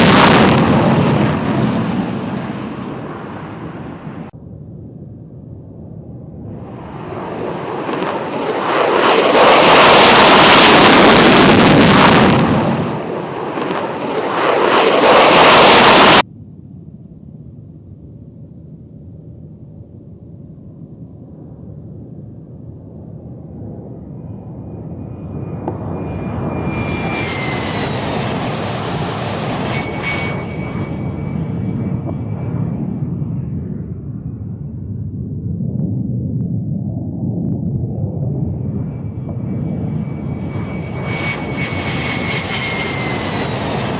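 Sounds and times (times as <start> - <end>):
fighter jet roar: 0.0 - 4.3, 5.6 - 16.3, 22.7 - 43.9
high turbine whine: 0.0 - 43.9
jet rumble: 0.0 - 43.9.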